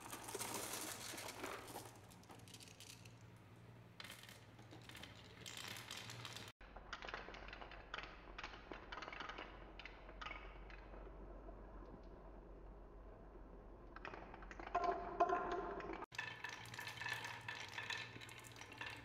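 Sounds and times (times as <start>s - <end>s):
marbles clicking on wooden track: 0.0s - 3.3s, 4.0s - 12.3s, 13.8s - 19.0s.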